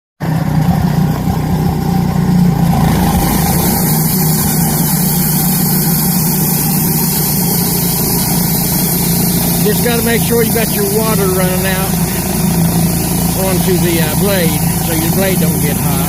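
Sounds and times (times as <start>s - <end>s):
sawmill engine running: 0.2s - 16.0s
hiss: 3.0s - 16.0s.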